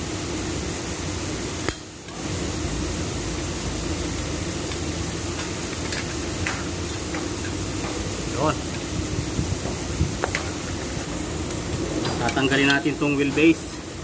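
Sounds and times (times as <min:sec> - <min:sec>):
workshop mechanical hum: 0:00.0 - 0:14.0.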